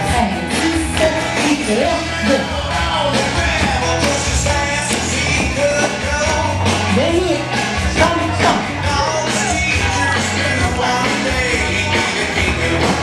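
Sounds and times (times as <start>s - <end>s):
person singing over a beat: 0.0s - 13.0s.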